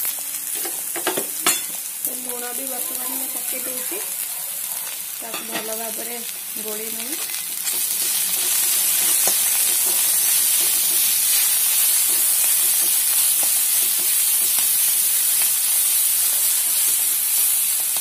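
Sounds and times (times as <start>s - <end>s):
vegetables sizzling in hot fat: 0.0s - 18.0s.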